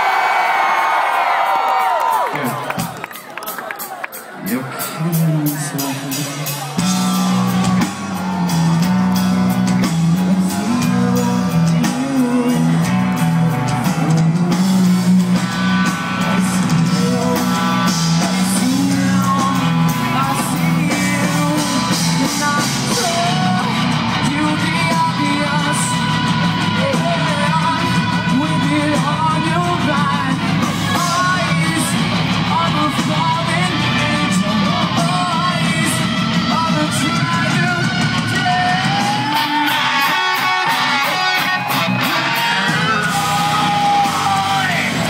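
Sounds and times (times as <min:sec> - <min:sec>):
person singing: 0:04.4 - 0:45.0
guitars: 0:04.6 - 0:45.0
bass line: 0:04.9 - 0:45.0.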